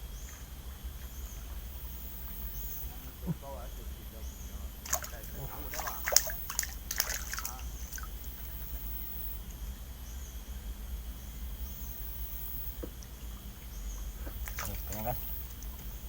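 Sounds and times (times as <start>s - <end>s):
high-pitched insect drone: 0.0s - 16.0s
low steady rumble: 0.0s - 16.0s.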